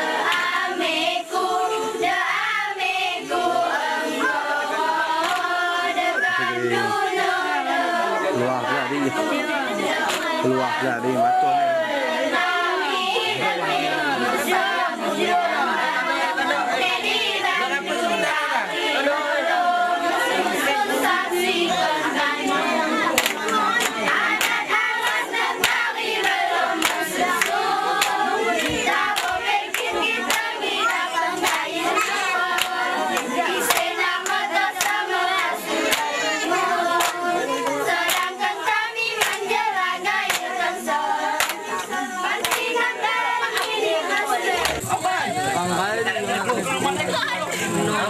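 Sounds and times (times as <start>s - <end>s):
hands clapping in rhythm: 0.0s - 2.6s, 3.7s - 11.6s, 12.4s - 47.0s
girls singing a chant: 0.0s - 45.6s.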